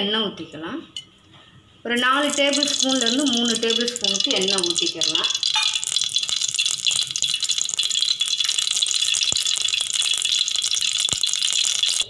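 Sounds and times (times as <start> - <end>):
oil crackling and hissing in pot: 2.0 - 12.0
sharp ticks: 2.3 - 12.0.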